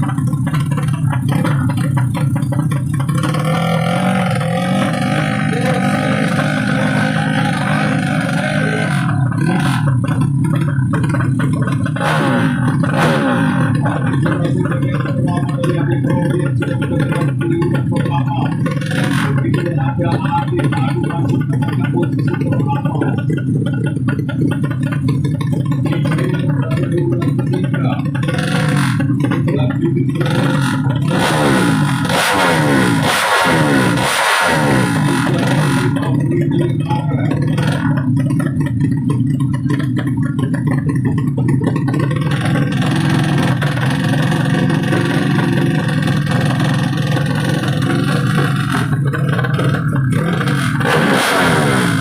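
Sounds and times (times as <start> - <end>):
motorcycle engine running rough: 0.0 - 52.0.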